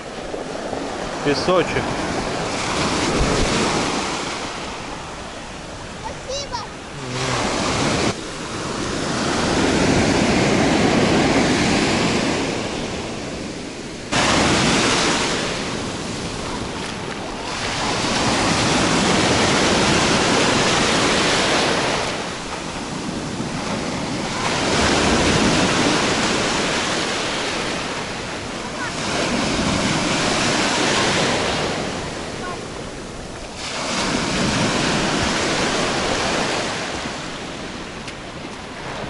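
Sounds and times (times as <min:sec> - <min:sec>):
surf breaking on sandy shore: 0:00.0 - 0:39.0
wave crashing: 0:00.0 - 0:39.0.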